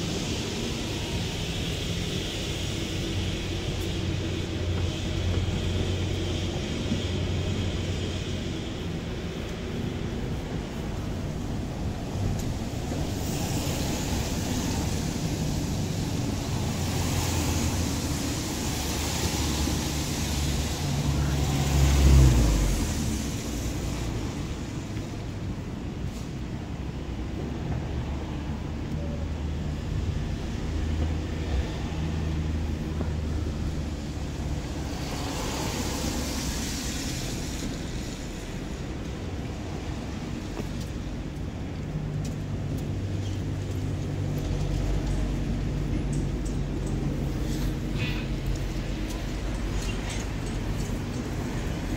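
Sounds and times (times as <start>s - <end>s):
traffic rushing past: 0.0s - 51.9s
vehicle passing hiss: 0.0s - 51.9s.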